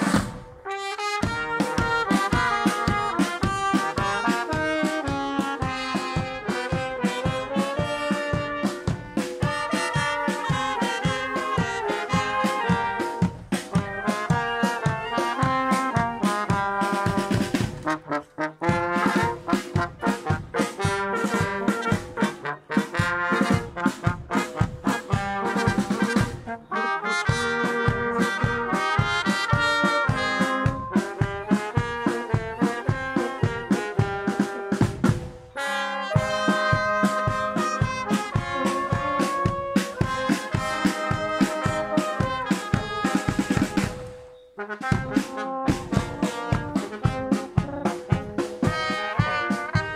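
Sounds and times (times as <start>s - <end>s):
brass and reed instruments: 0.0s - 49.9s
steady drum beat: 0.0s - 49.9s
wind band playing: 0.0s - 49.9s.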